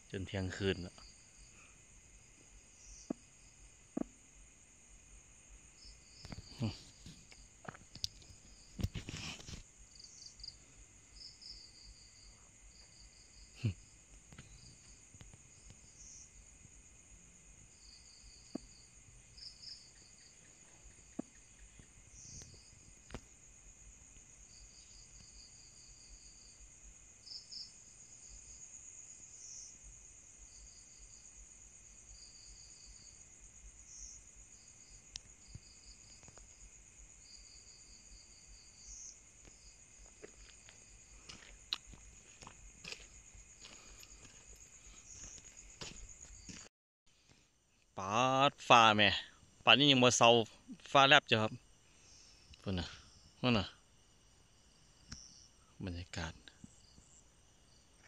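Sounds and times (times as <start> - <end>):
insect trilling chirps: 0.0 - 46.7, 47.7 - 58.0
night insects droning: 0.0 - 58.0.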